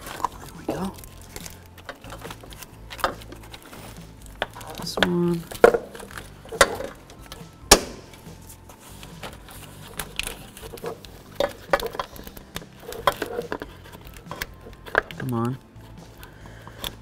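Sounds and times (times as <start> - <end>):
plastic clips clicking and rattling: 0.0 - 8.3, 9.1 - 17.0.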